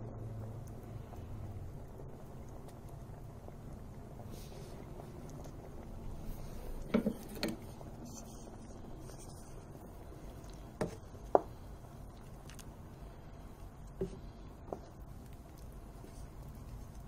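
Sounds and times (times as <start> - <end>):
low steady background: 0.0 - 17.0.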